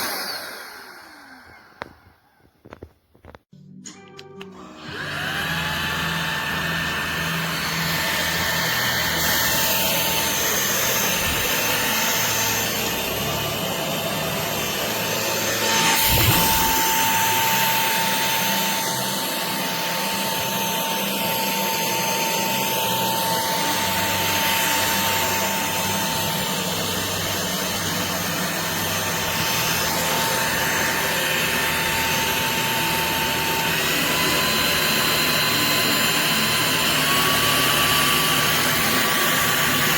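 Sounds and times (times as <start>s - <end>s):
stick vacuum running: 4.4s - 39.9s.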